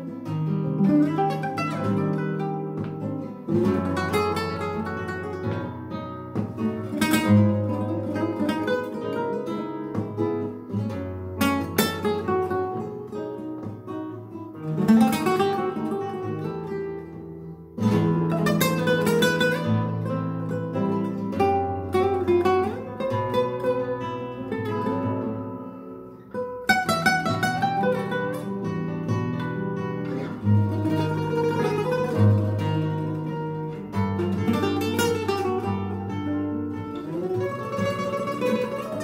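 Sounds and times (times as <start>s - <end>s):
flamenco guitar duet: 0.0s - 39.0s.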